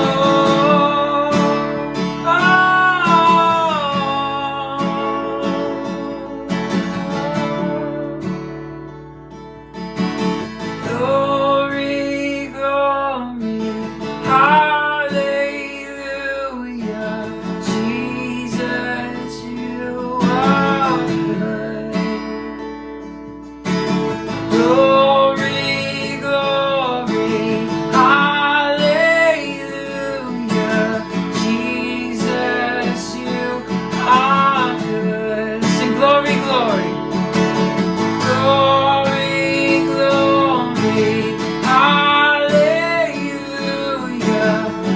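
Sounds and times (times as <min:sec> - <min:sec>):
person singing melody: 0:00.0 - 0:09.2, 0:10.7 - 0:22.6, 0:24.5 - 0:44.9
strummed acoustic guitar: 0:00.0 - 0:44.9.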